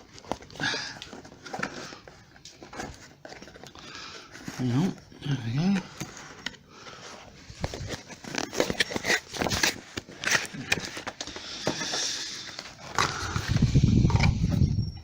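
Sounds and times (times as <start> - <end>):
packaging rustling and crinkling: 0.0 - 14.4.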